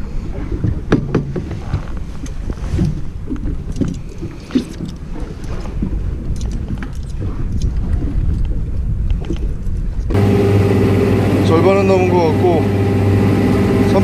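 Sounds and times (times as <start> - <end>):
boat engine rumble: 0.0 - 14.0
wind on microphone: 0.0 - 14.0.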